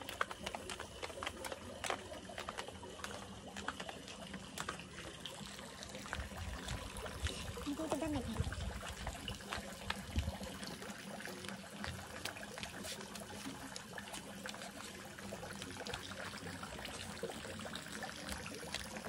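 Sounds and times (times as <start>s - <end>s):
small water splashes: 0.0s - 19.0s
water trickling into a pool: 0.0s - 19.0s.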